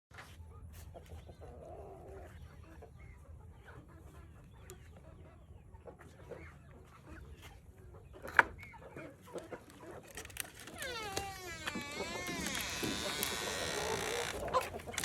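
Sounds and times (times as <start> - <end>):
chickens clucking: 0.2 - 15.0.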